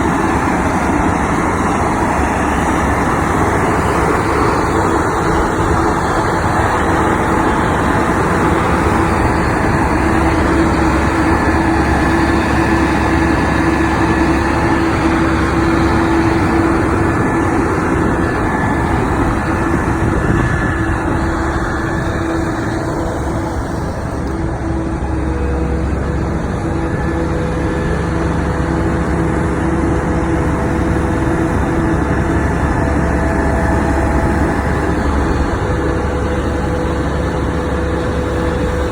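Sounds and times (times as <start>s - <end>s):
heavy engine running: 0.0s - 38.9s.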